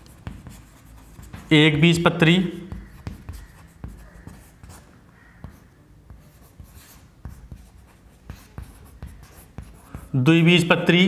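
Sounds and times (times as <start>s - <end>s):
chalk writing on chalkboard: 0.0s - 10.3s.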